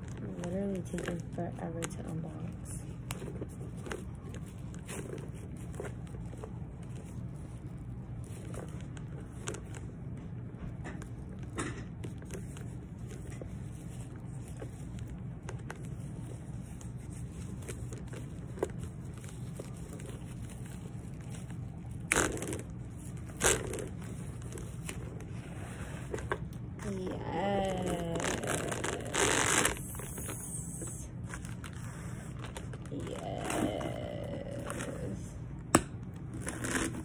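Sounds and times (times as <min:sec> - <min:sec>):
plastic wrapping crinkling and tearing: 0:00.0 - 0:37.0.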